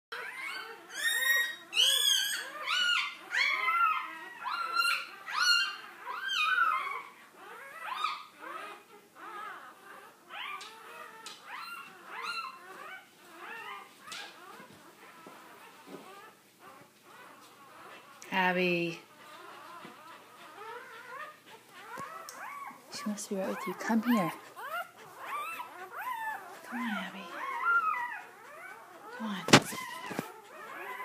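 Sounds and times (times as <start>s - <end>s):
dog whimpering: 0.1s - 31.0s.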